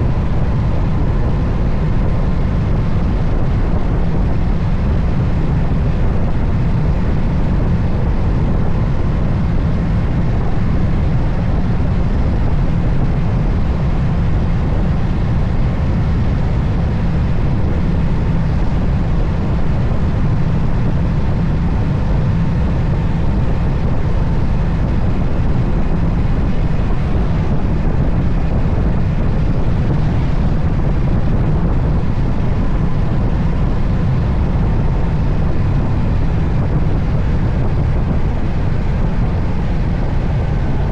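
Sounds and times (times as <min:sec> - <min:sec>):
motorcycle engine hum: 0:00.0 - 0:40.9
wind rush: 0:00.0 - 0:40.9.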